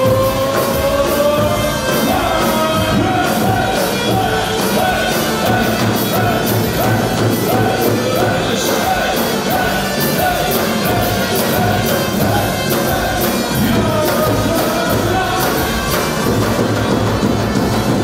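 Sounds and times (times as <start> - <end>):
person singing: 0.0 - 18.0
steady drum beat: 0.0 - 18.0.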